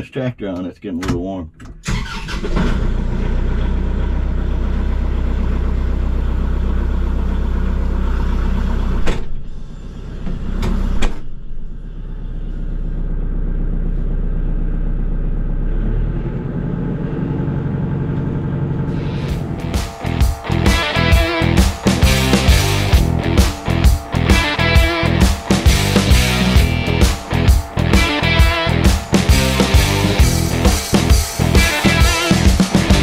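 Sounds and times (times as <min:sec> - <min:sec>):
tractor diesel engine running: 0:01.9 - 0:10.7, 0:11.4 - 0:33.0.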